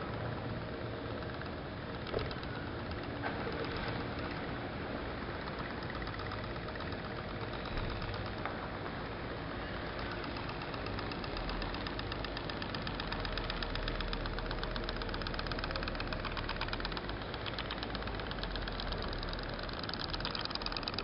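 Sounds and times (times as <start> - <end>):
steam boat engine popping: 1.1 - 9.0, 9.6 - 21.0.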